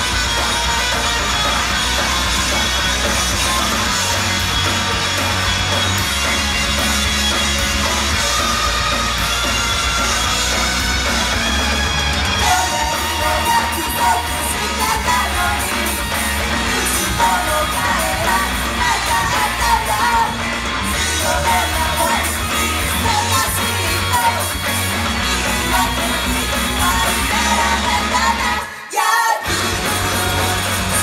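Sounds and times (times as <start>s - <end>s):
live rock song with vocals: 0.0s - 31.0s.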